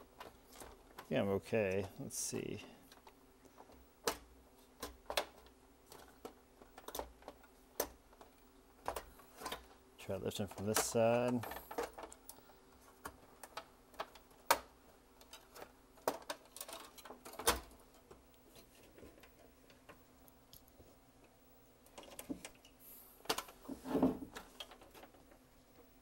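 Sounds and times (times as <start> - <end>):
plastic parts clicking and rattling: 0.0 - 20.8, 21.8 - 25.4.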